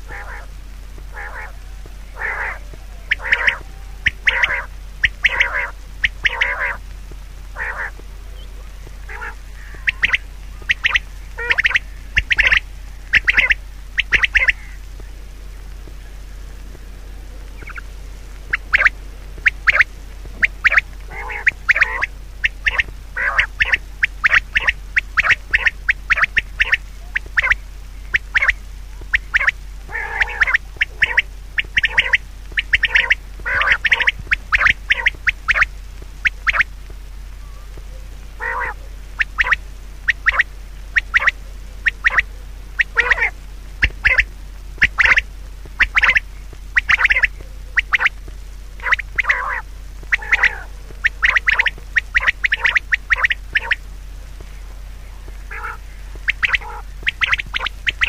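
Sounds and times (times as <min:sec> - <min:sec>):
loud bird calls: 0:00.0 - 0:48.2, 0:48.8 - 0:58.0.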